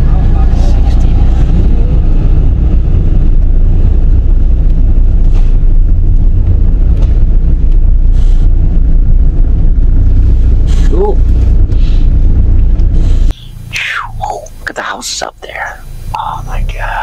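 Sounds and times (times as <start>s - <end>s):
vehicle rumble from inside cab: 0.0s - 17.0s.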